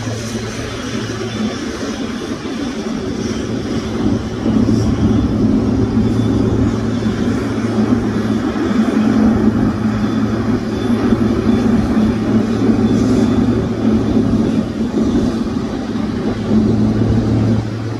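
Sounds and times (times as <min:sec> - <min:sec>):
jet engines rumbling and whining: 0:00.0 - 0:17.9.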